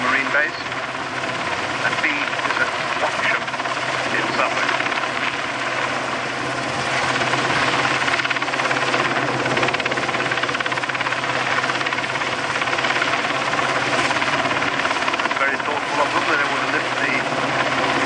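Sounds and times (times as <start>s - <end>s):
helicopter rotor beating: 0.0s - 18.0s.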